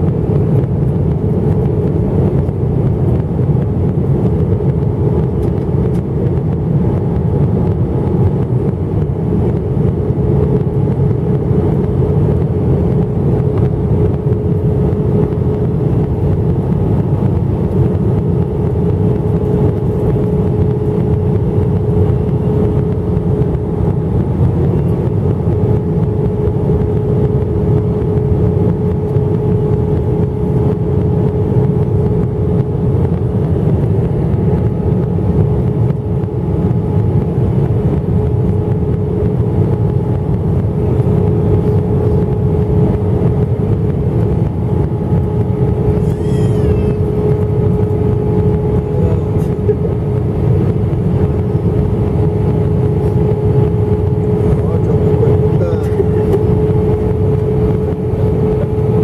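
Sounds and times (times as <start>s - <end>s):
deep rumble of engines and airflow: 0.0s - 59.0s
steady cabin hum: 0.0s - 59.0s.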